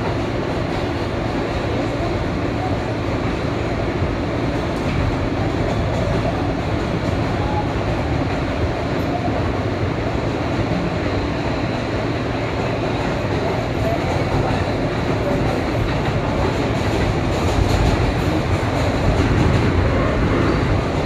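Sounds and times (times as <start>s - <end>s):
train wheels on rail: 0.0s - 21.0s.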